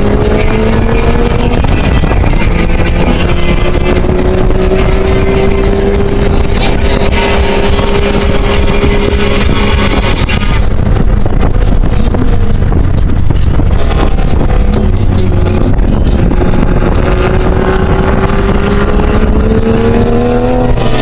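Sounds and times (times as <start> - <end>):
car engine droning: 0.0 - 21.0
road and wind noise: 0.0 - 21.0.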